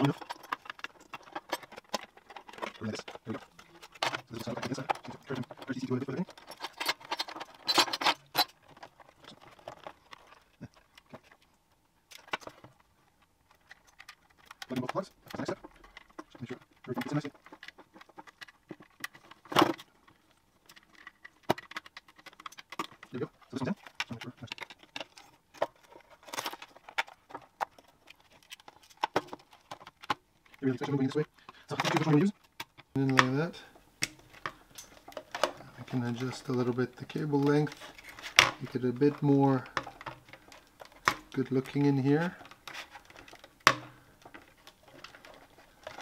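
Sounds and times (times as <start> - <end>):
circuit board clicks and rustles: 0.0 - 46.0.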